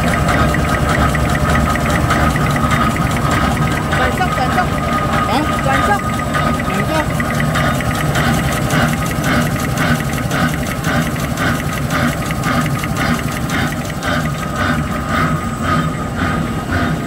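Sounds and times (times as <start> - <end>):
folding machine humming and whining: 0.0 - 17.0
machine clatter: 0.0 - 17.0.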